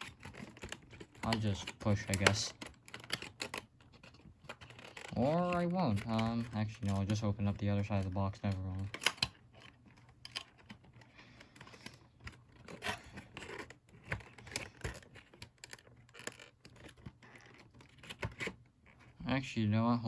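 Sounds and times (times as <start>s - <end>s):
cardboard box handled: 0.0s - 19.2s.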